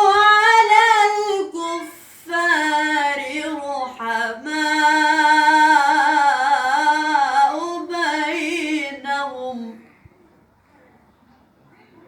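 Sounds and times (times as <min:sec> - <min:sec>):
woman chanting: 0:00.0 - 0:09.9.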